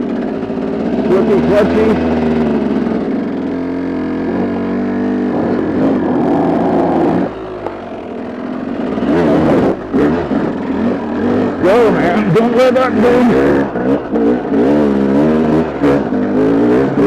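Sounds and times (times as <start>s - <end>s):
dirt bike engine under load: 0.0s - 17.0s.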